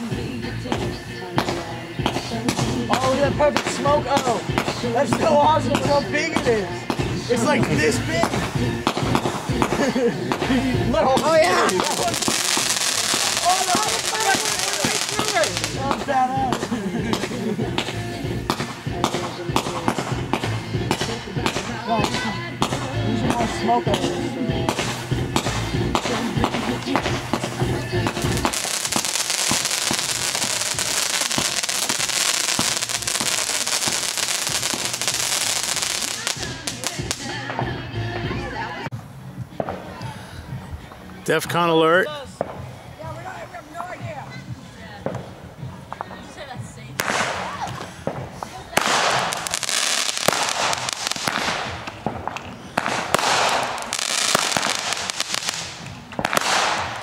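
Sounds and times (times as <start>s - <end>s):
fireworks hissing: 0.0s - 38.9s, 39.7s - 57.0s
fireworks crackling and popping: 0.0s - 57.0s.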